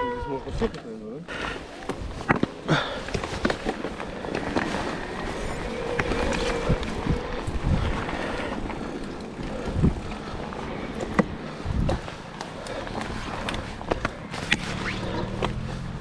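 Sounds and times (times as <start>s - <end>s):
bike tyres rolling: 0.0s - 16.0s.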